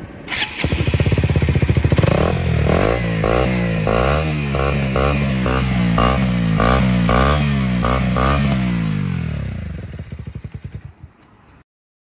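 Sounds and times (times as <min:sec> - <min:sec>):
loud motorcycle engine revving: 0:00.3 - 0:10.9.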